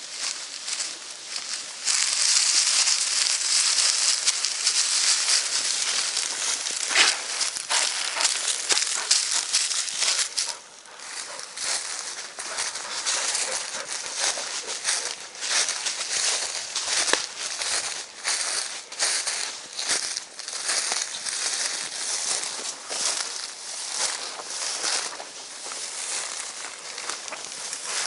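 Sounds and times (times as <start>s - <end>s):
dry grass rustling and crackling: 0.0s - 28.0s.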